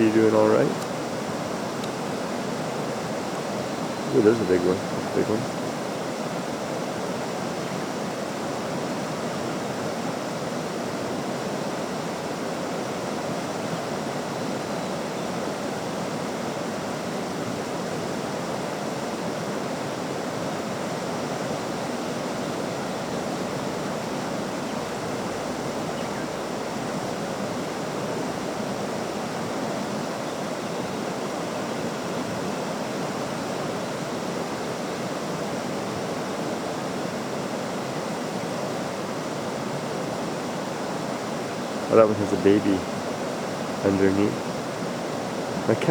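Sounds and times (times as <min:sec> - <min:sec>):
river water rushing: 0:00.3 - 0:41.9.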